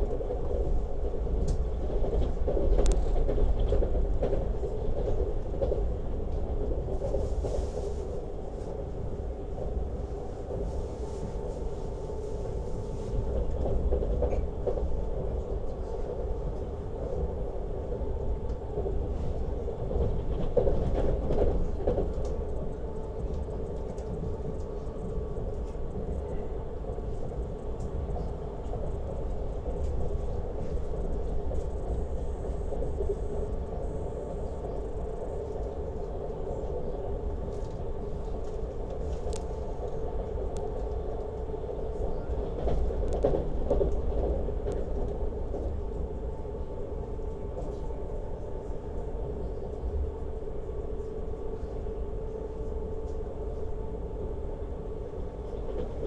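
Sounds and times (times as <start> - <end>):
train hum: 0.0 - 56.0
train wheels rumbling on track: 0.0 - 56.0.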